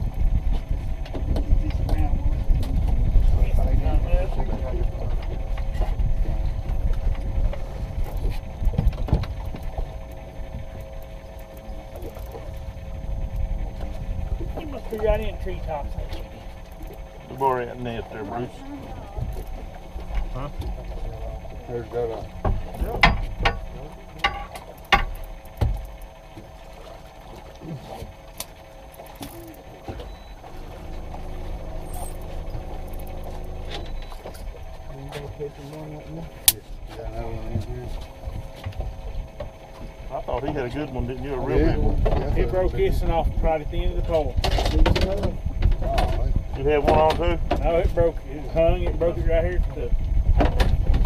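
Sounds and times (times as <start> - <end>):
faint steady hum: 0.0 - 51.0
low rumble: 0.0 - 51.0.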